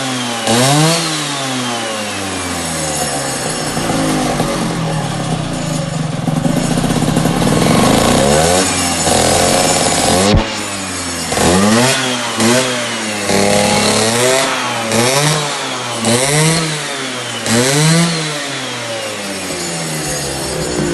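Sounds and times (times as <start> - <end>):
small petrol engine revving: 0.0 - 20.9.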